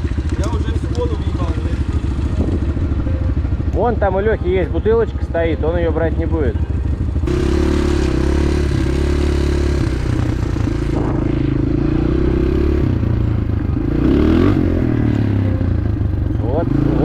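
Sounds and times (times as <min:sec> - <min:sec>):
dirt bike engine revving: 0:00.0 - 0:04.6, 0:06.8 - 0:17.0.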